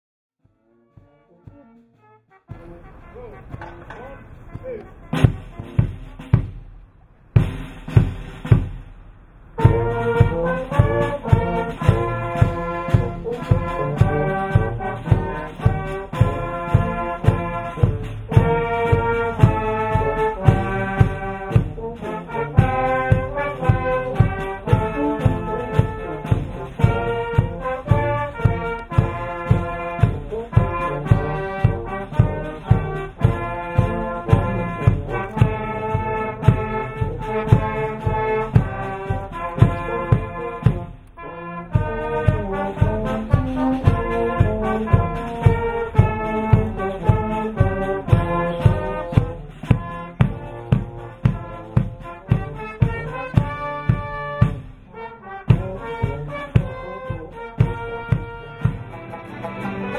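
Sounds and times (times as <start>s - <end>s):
brass band playing a march: 0.4s - 59.9s
steady drum beat: 0.9s - 59.9s.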